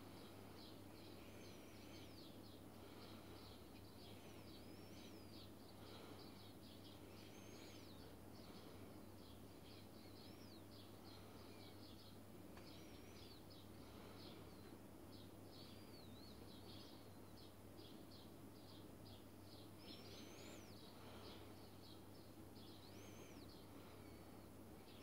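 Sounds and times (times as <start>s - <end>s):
low steady hum: 0.0s - 25.0s
sparrows chirping faintly: 0.0s - 25.0s.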